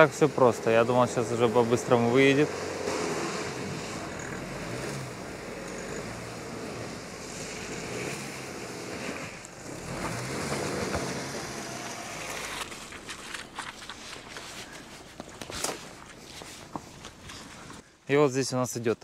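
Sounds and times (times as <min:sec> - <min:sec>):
car engine working under load: 0:00.0 - 0:17.8.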